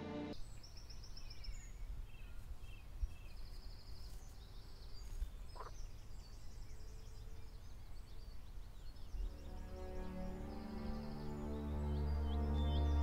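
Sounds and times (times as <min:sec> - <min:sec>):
birds chirping and trilling: 0:00.4 - 0:13.0.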